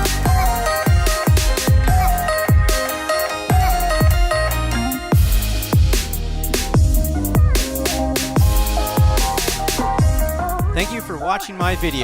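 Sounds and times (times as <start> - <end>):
electronic music with deep bass drops: 0.0 - 2.9, 3.5 - 12.0.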